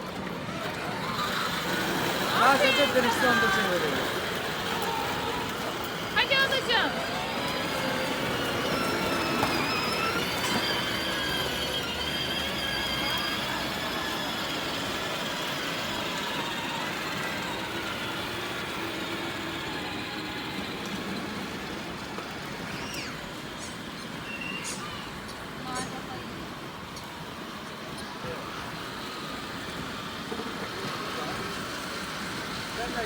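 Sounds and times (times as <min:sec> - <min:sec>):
toy car electric motors whining: 0:00.0 - 0:33.0.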